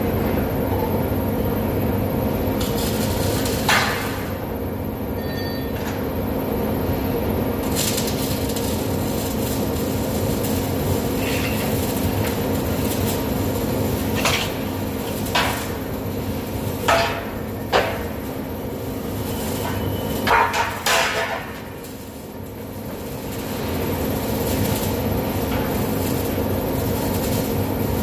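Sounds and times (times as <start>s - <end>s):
workshop machinery hum: 0.0s - 28.0s.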